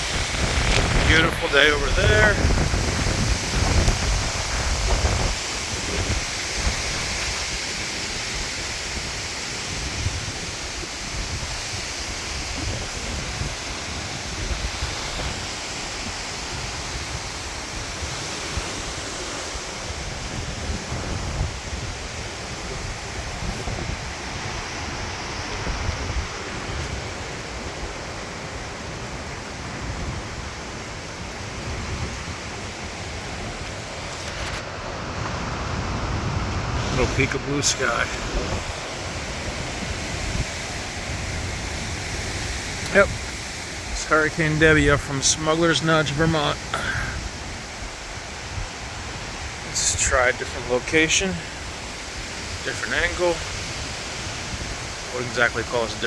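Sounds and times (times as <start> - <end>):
gusty storm wind rushing: 0.0 - 56.0.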